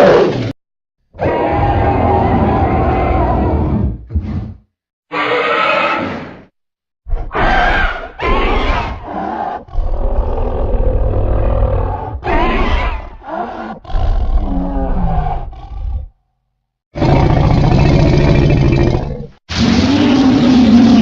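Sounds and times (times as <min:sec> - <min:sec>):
dragon growls and roars: 0:01.2 - 0:06.5, 0:07.1 - 0:16.2, 0:17.0 - 0:21.0.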